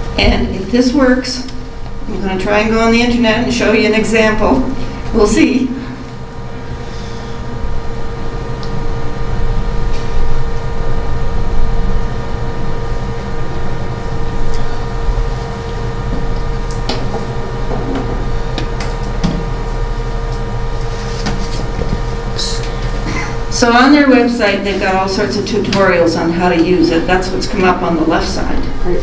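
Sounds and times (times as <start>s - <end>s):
constant mid-pitched tone: 0.0s - 20.9s, 22.0s - 29.0s
low mechanical room hum: 0.0s - 29.0s.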